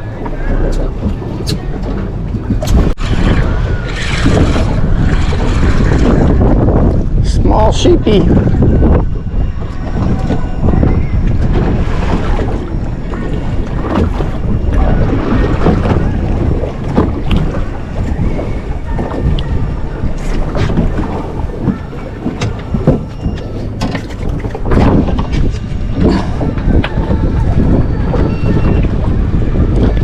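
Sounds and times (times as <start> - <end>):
water sloshing against hull: 0.0 - 30.0
wind buffeting microphone: 0.0 - 30.0.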